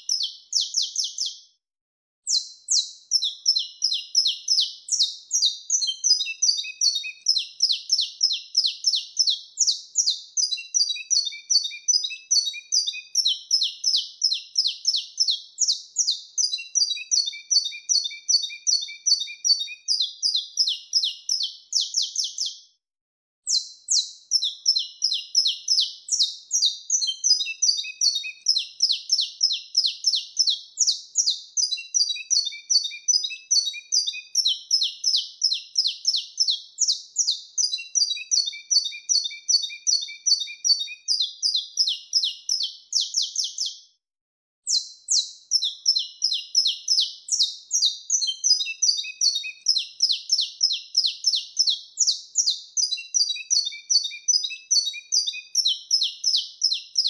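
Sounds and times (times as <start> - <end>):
finch singing: 0.0 - 1.4, 2.3 - 22.6, 23.5 - 43.8, 44.7 - 57.0.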